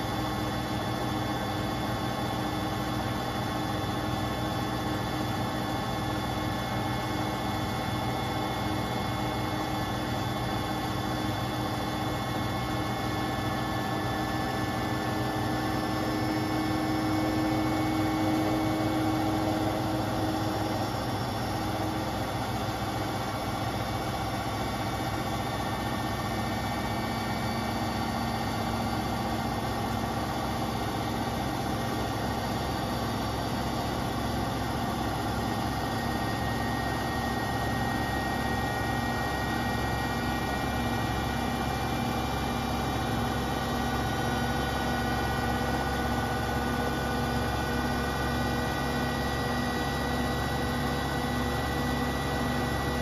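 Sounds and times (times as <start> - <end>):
washing machine spinning: 0.0 - 53.0.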